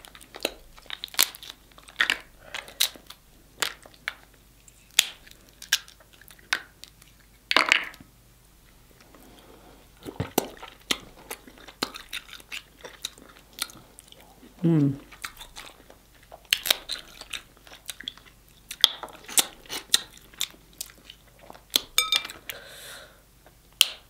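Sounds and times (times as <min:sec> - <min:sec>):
crab shells cracking: 0:00.0 - 0:08.0, 0:10.1 - 0:14.2, 0:15.0 - 0:22.6.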